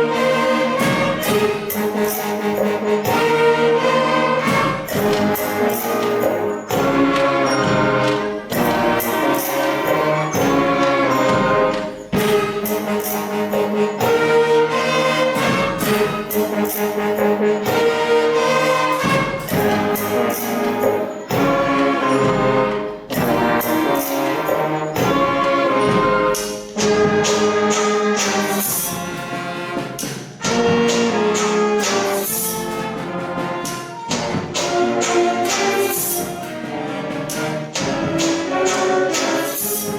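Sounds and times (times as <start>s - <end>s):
wind band playing: 0.0s - 39.9s.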